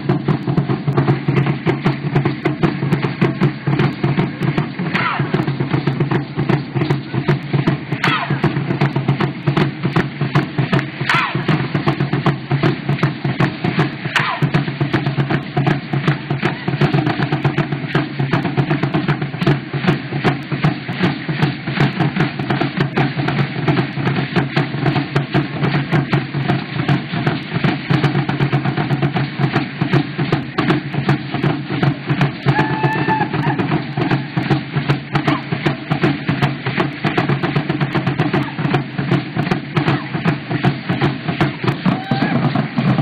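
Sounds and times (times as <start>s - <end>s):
music with fast drumming: 0.0s - 43.0s.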